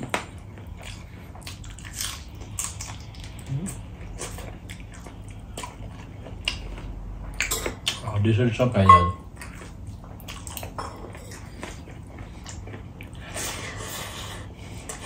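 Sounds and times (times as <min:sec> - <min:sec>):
person chewing food: 0:00.0 - 0:08.0, 0:09.2 - 0:15.0.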